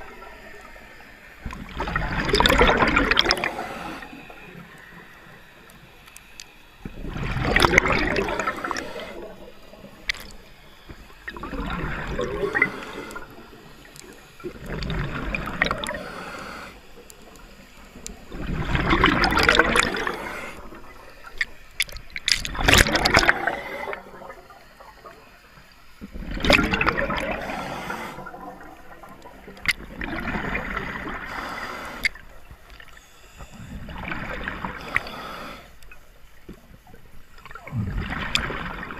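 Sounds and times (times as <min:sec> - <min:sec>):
exhaled bubbles underwater: 0:00.0 - 0:05.8, 0:06.8 - 0:35.1, 0:36.8 - 0:38.9.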